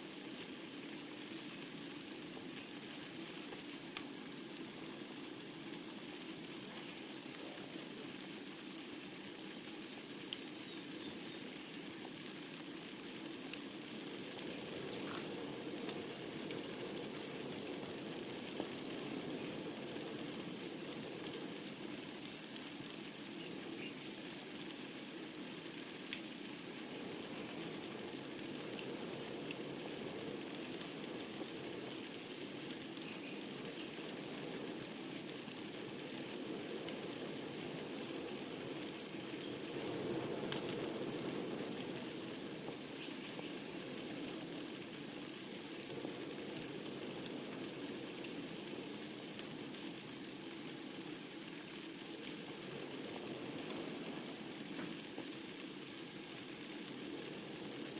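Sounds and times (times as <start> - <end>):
fire crackling and popping: 0.0 - 57.9
flames rushing in a fireplace: 0.0 - 57.9.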